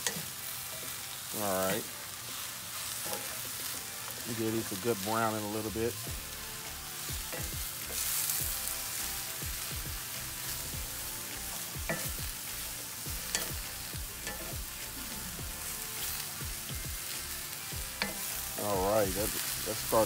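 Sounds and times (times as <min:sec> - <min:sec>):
mushrooms sizzling in oil: 0:00.0 - 0:20.0.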